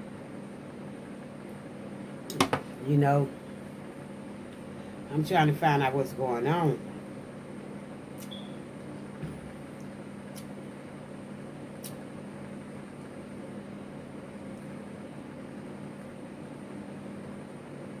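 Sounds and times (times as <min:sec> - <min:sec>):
appliance humming: 0:00.0 - 0:18.0.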